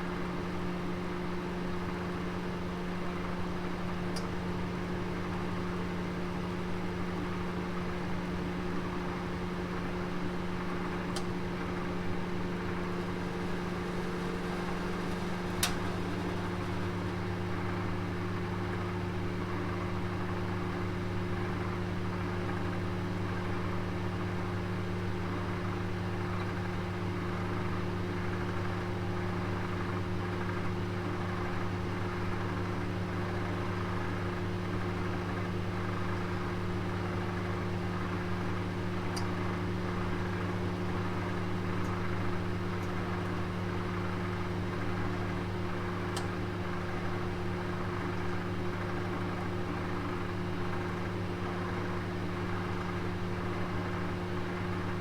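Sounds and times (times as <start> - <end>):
oven fan humming: 0.0 - 55.0.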